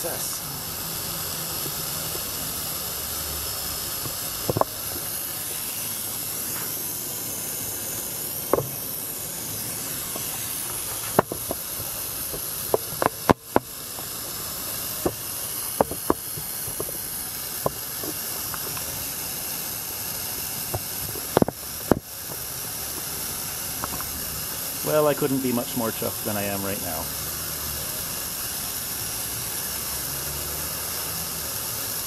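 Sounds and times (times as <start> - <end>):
steam hissing from valve: 0.0 - 32.0.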